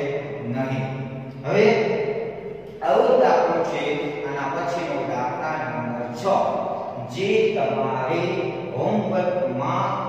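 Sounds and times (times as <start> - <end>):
man talking: 0.0 - 10.0.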